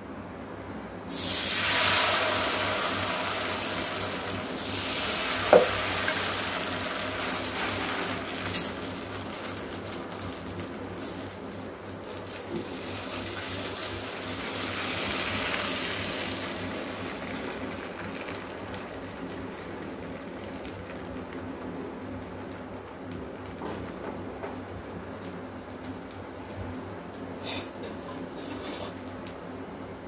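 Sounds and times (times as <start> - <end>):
batter sizzling on hot pan: 1.1 - 30.0.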